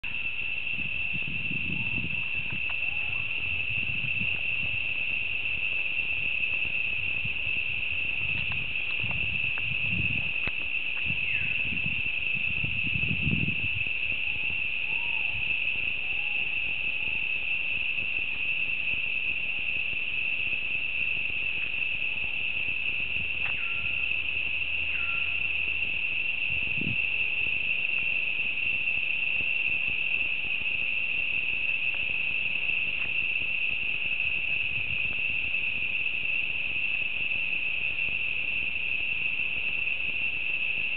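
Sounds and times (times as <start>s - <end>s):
cicadas droning: 0.0s - 40.9s.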